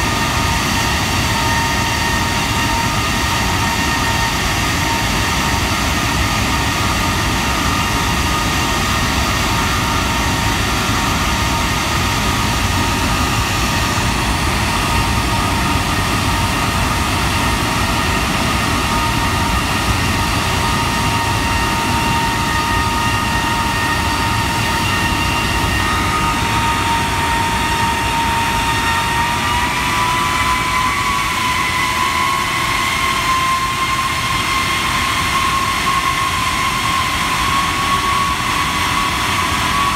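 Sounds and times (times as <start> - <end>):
jet engine roar with fan whine: 0.0 - 39.9.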